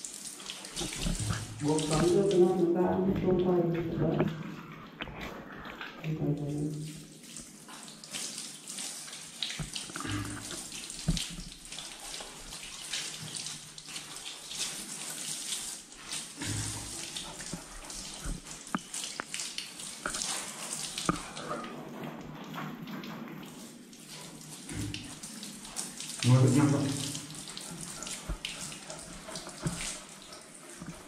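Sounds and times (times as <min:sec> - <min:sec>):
shower water splashing: 0:00.0 - 0:31.0.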